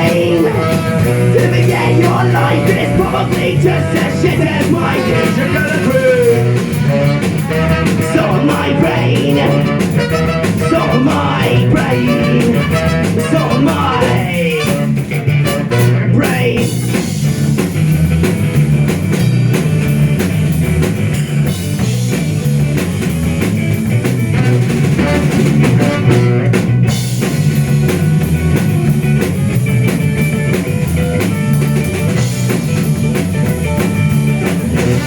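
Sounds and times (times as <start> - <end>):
bass guitar: 0.0 - 35.0
drum kit: 0.0 - 35.0
electric guitar: 0.0 - 35.0.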